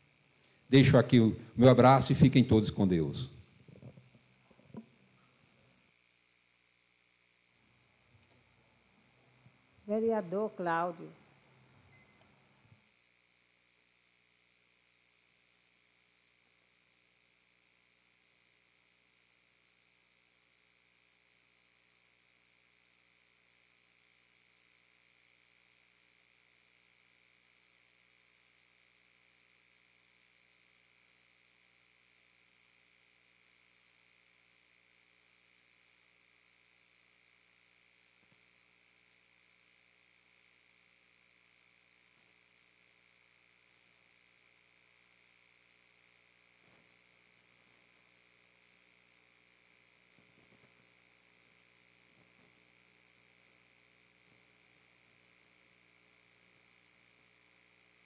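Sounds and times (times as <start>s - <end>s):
faint electrical hum and hiss: 0.0s - 58.0s.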